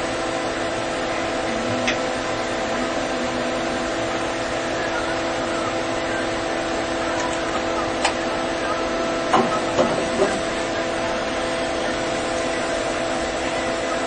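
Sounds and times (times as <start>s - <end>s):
welding arc hissing and buzzing: 0.0s - 14.0s.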